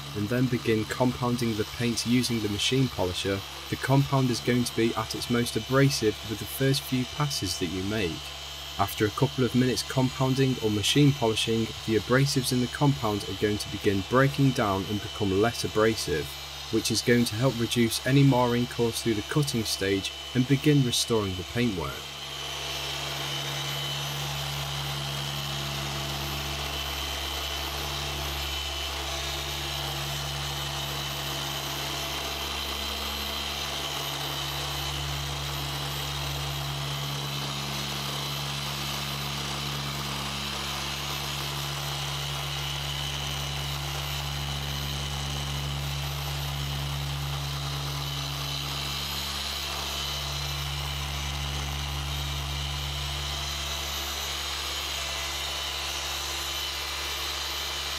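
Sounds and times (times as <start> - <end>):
machine polisher motor drone: 0.0 - 57.9.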